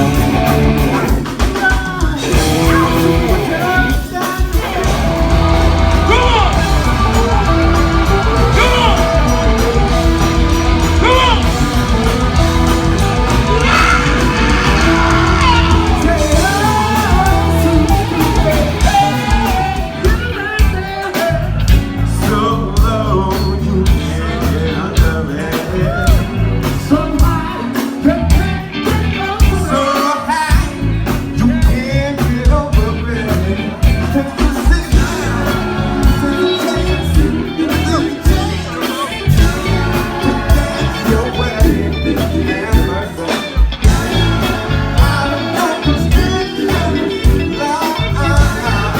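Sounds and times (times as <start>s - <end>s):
drum beat: 0.0s - 23.0s, 25.0s - 33.0s, 33.8s - 48.9s
person singing: 0.0s - 30.7s, 31.4s - 48.9s
funk band playing: 0.0s - 48.9s.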